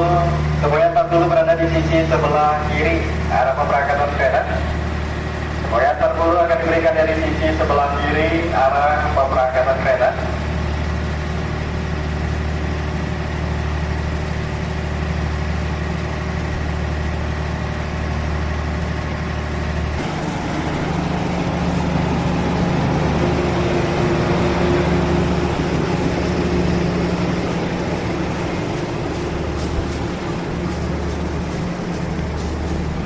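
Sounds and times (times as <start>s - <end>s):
diesel locomotive engine humming: 0.0s - 33.0s.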